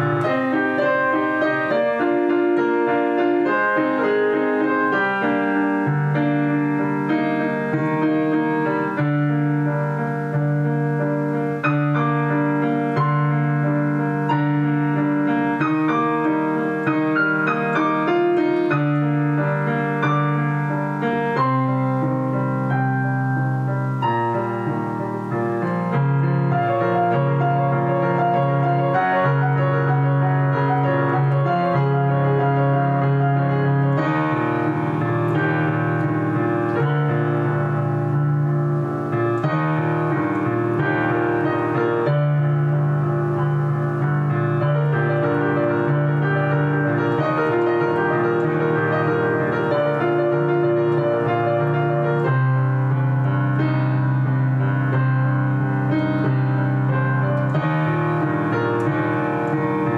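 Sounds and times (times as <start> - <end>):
slow solo piano piece: 0.0 - 59.9.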